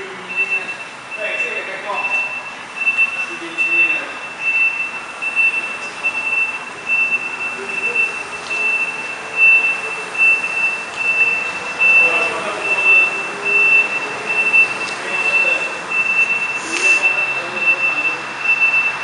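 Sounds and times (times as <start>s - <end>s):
truck reversing alarm beeping: 0.0s - 19.0s.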